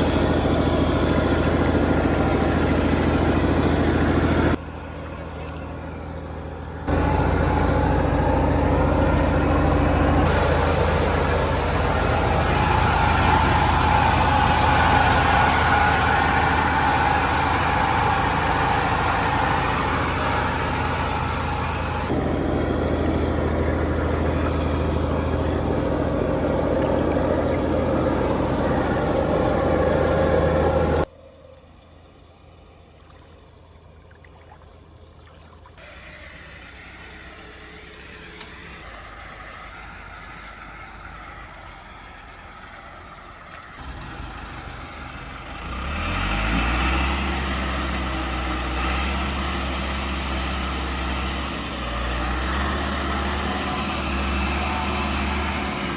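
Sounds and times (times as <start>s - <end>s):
distant engine: 0.0s - 55.9s
tractor diesel engines running: 0.0s - 55.9s.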